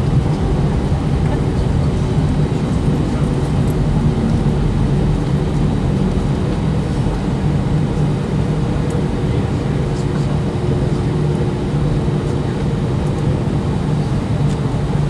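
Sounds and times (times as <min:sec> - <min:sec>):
airliner engine hum: 0:00.0 - 0:15.0.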